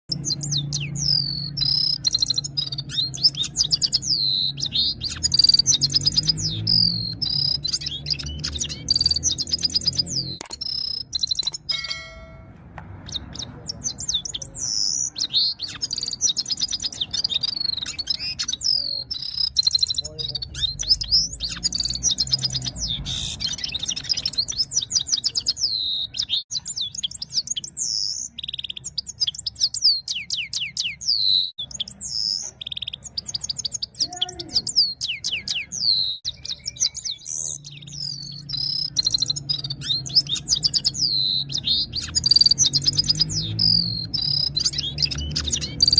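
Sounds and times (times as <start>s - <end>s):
finch twittering song: 0.1s - 45.9s.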